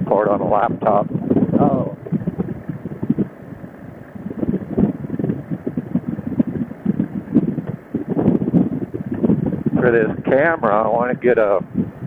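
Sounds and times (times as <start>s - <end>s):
motorcycle rumble: 0.0s - 12.0s
wind buffeting microphone: 0.0s - 12.0s.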